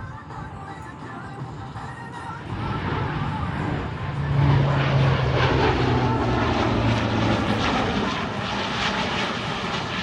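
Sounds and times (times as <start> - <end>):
turboprop plane flying past: 0.0 - 10.0.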